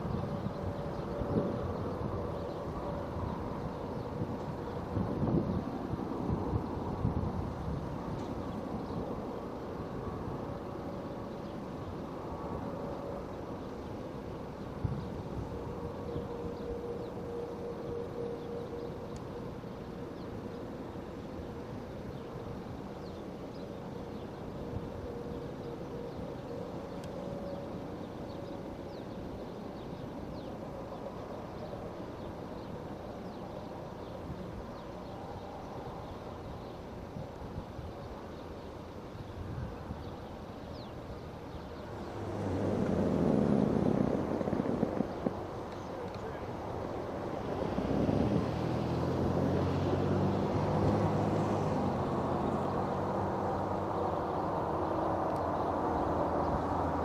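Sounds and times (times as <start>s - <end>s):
diesel locomotives rumbling: 0.0s - 57.0s.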